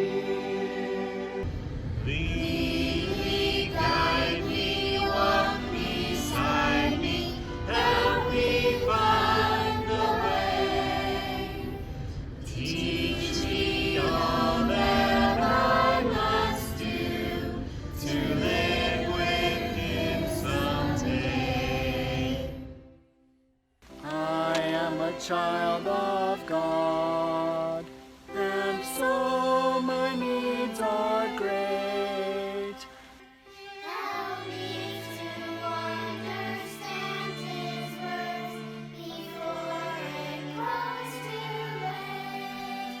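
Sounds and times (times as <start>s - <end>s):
choir singing: 0.0s - 23.0s, 23.9s - 43.0s
musical accompaniment: 0.0s - 43.0s.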